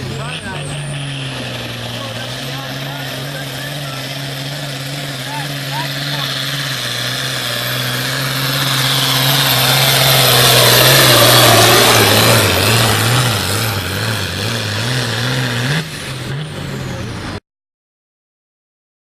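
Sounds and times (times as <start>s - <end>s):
tractor diesel engine under load: 0.0s - 17.4s.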